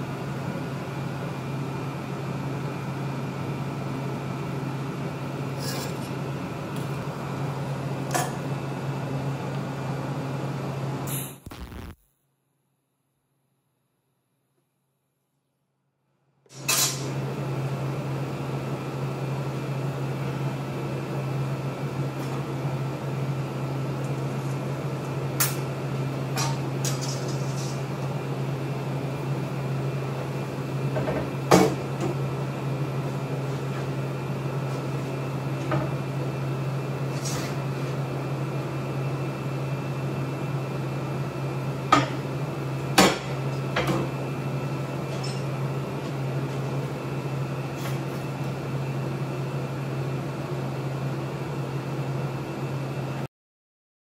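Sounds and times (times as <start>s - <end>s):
shop equipment hum: 0.0s - 53.3s.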